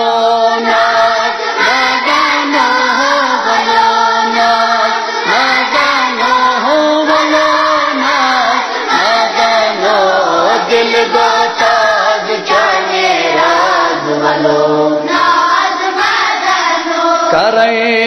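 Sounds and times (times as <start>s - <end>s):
children singing in unison: 0.0s - 17.6s.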